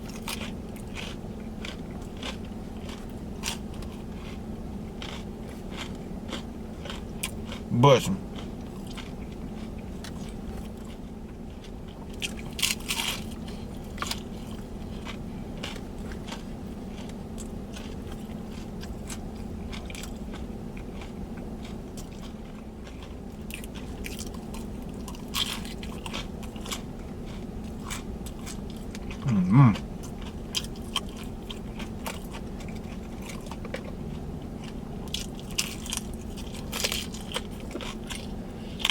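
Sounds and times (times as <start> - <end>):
crunchy bites and chewing: 0.0 - 38.9
steady low hum: 0.0 - 38.9.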